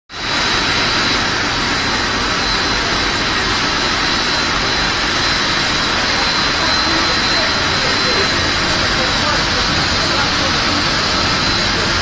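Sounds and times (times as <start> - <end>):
extrusion machinery running: 0.1 - 12.0
high machine whine: 0.1 - 12.0.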